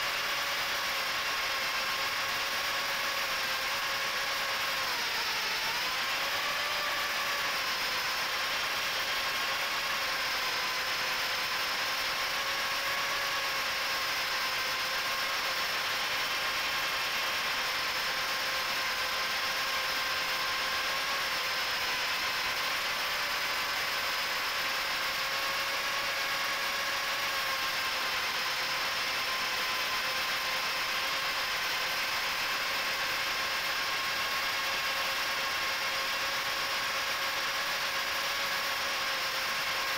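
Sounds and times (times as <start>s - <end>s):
drone motors buzzing whine: 0.0s - 39.9s.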